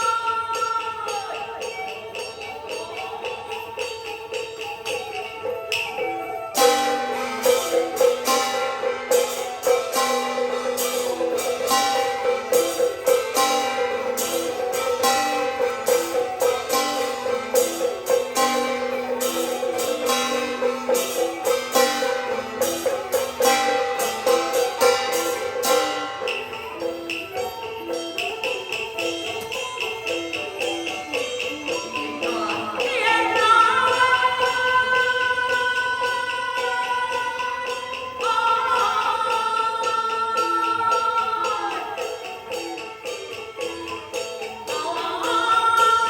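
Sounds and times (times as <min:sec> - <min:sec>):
loud percussion strikes: 0:00.0 - 0:46.0.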